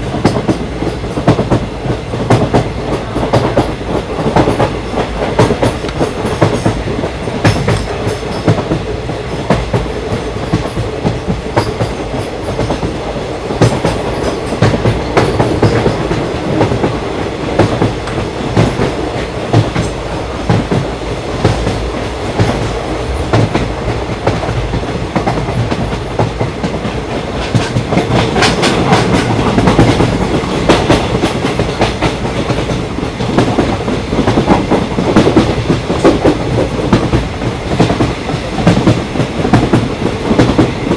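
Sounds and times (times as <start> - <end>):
train rolling rumble: 0.0 - 40.9
wheels clicking over rail joints: 0.2 - 40.9.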